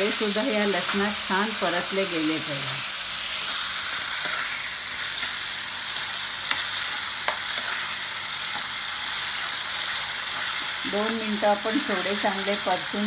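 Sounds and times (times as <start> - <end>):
prawns sizzling in hot oil: 0.0 - 13.0.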